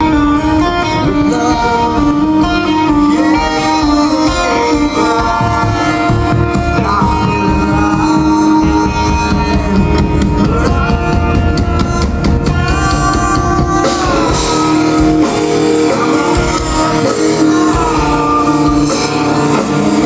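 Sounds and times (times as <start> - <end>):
bass: 0.0 - 20.0
drums: 0.0 - 20.0
held guitar notes: 0.0 - 20.0.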